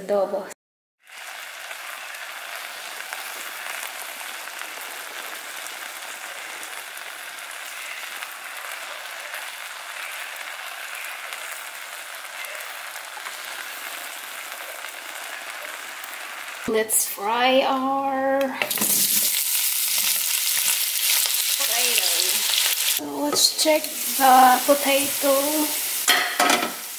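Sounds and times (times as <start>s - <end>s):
chicken sizzling in a pot: 1.0s - 26.9s.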